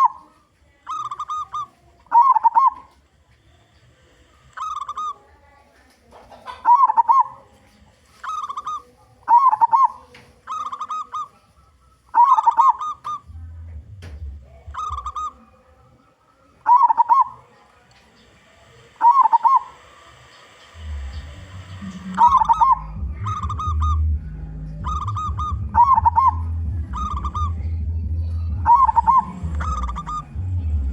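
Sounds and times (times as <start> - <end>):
dove cooing: 0.0 - 3.0, 4.6 - 5.3, 6.4 - 7.5, 8.2 - 13.3, 14.4 - 30.9.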